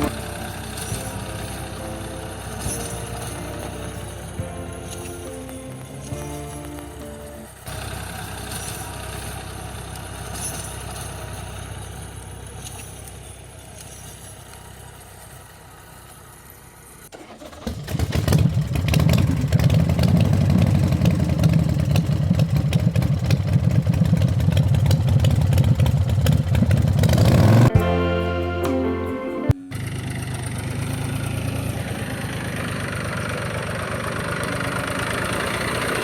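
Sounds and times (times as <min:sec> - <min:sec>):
small engine running: 0:00.0 - 0:28.2, 0:29.7 - 0:36.0.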